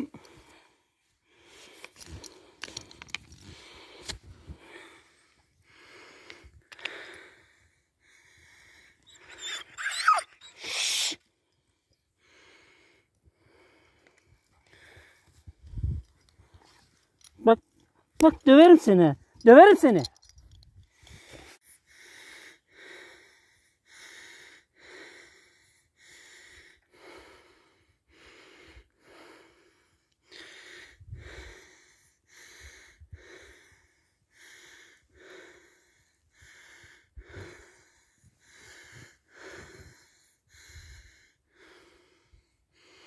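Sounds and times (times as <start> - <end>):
person breathing heavily: 0.0 - 9.7, 10.4 - 16.0, 20.9 - 43.0.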